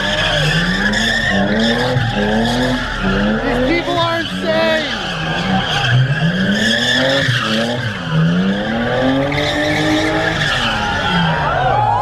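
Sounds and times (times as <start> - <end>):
car engine revving hard: 0.0 - 11.4.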